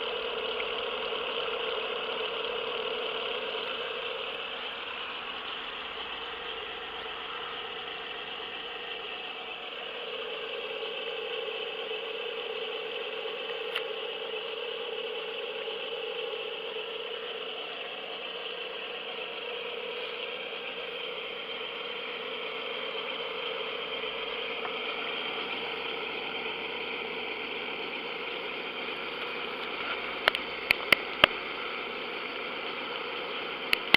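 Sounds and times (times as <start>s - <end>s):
water spluttering from exhaust: 0.0s - 33.9s.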